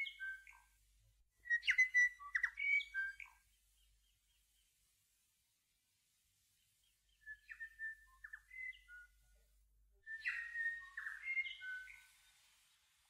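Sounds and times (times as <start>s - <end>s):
faint bird song: 0.0s - 13.0s.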